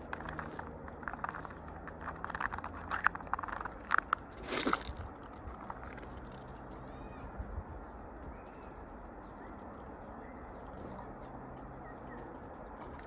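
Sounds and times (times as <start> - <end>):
birds pecking at feed: 0.0 - 13.0.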